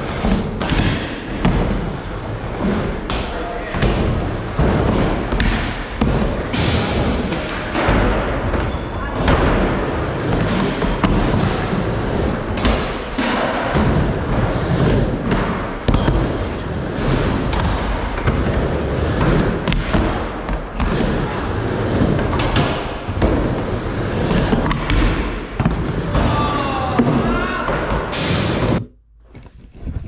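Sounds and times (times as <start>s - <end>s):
skateboard wheels rolling on wood: 0.0s - 28.8s.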